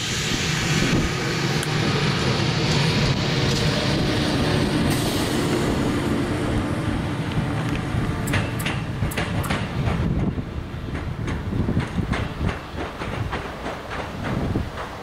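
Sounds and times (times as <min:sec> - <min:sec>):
locomotive rumbling: 0:00.0 - 0:15.0.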